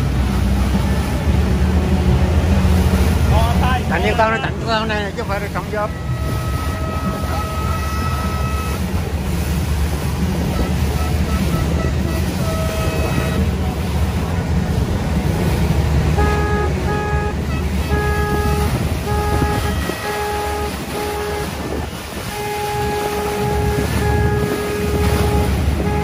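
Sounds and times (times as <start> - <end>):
boat engine rumble: 0.0 - 26.0
boat horn honks: 0.0 - 26.0
wind: 0.0 - 26.0.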